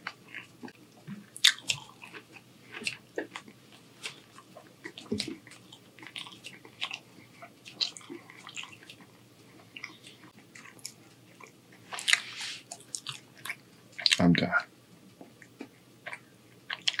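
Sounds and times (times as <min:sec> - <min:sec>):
man chewing food: 0:00.0 - 0:17.0.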